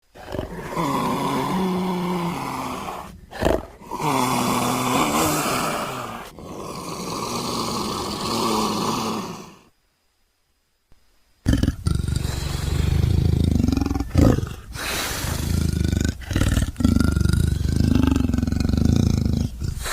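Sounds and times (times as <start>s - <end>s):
big cat roaring and growling: 0.1s - 9.6s, 11.5s - 19.9s
big cat grunt: 0.1s - 9.7s, 11.5s - 19.9s.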